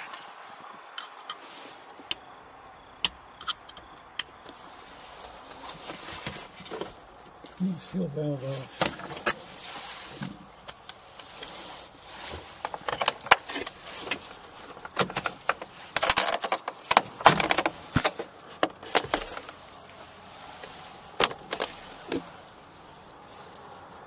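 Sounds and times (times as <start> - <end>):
gear rustling: 3.5 - 24.0.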